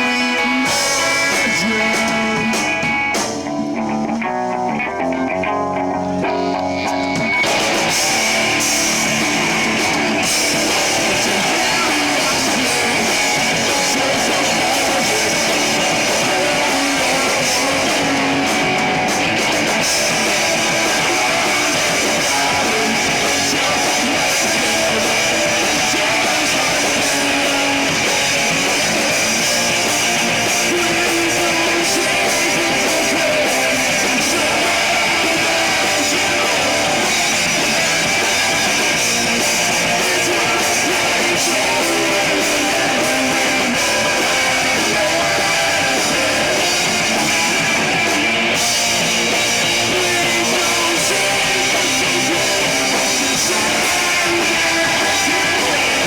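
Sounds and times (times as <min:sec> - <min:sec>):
live rock band playing: 0:00.0 - 0:56.0
loud electric guitars: 0:00.0 - 0:56.0.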